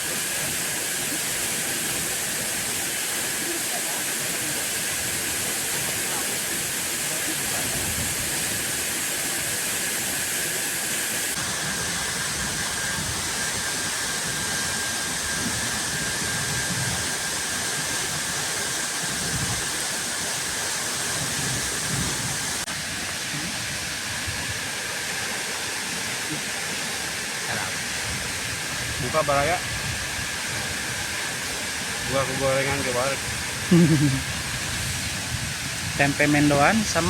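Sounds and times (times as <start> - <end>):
falling water rushing: 0.0 - 37.0.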